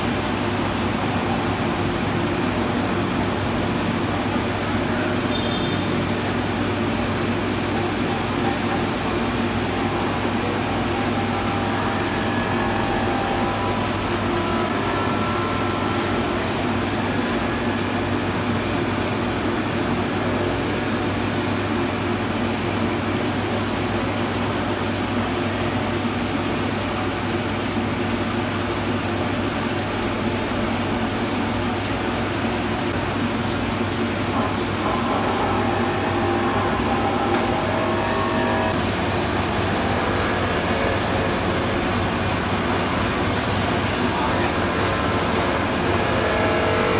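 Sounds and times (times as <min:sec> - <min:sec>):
machine low hum: 0:00.0 - 0:23.3, 0:29.2 - 0:46.9.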